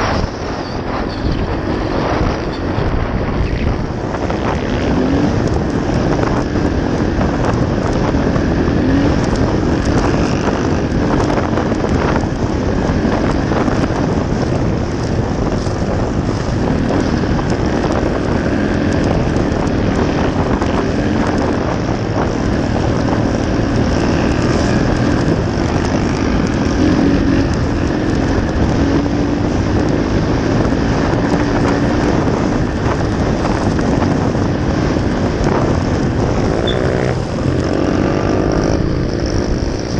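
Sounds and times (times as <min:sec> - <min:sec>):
dirt bike engine running: 0:00.0 - 0:39.9
wind noise on microphone: 0:00.0 - 0:39.9.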